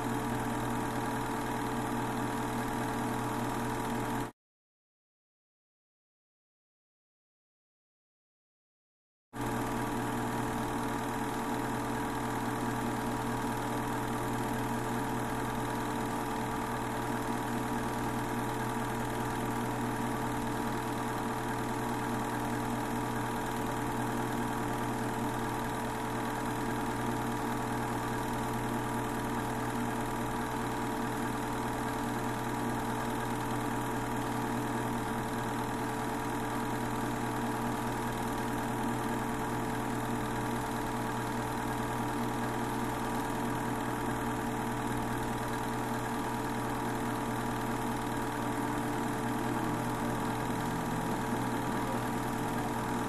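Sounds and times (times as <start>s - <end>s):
film projector motor whirring: 0.0s - 4.3s, 9.4s - 53.0s.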